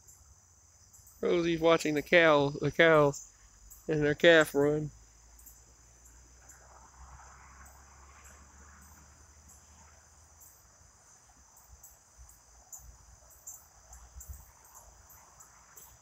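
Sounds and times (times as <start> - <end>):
distant traffic rumble: 0.0 - 16.0
insect chorus chirping: 0.0 - 16.0.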